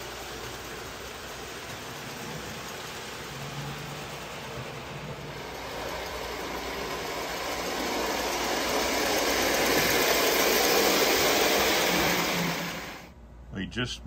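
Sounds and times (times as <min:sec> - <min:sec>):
toy train motor whir: 0:00.0 - 0:13.1
toy train wheels rattling: 0:00.0 - 0:13.1.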